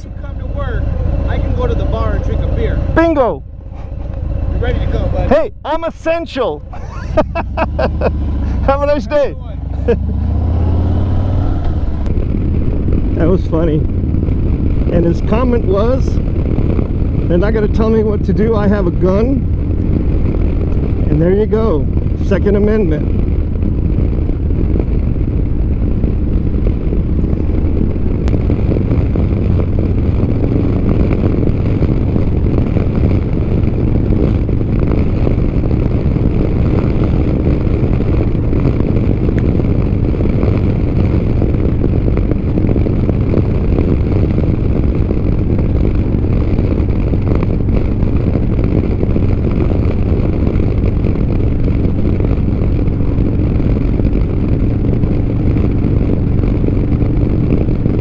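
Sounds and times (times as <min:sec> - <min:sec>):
motorcycle engine drone: 0:00.0 - 0:58.0
wind buffeting microphone: 0:00.0 - 0:58.0.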